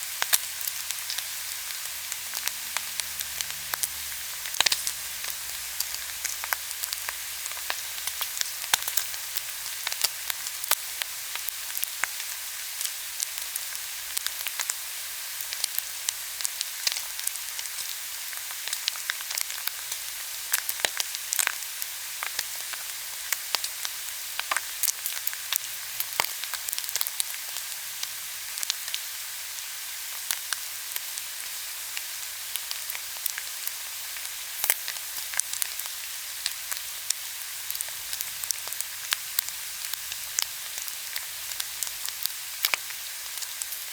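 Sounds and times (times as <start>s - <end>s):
meat sizzling on a grill: 0.0s - 43.9s.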